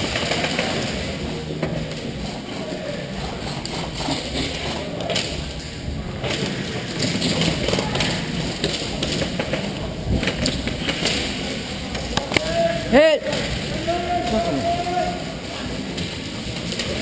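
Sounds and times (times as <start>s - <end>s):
noisy background: 0.0s - 17.0s.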